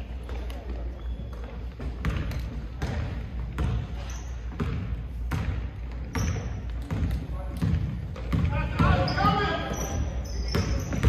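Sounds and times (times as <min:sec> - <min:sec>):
basketball bouncing on wooden floor: 0:00.3 - 0:11.0.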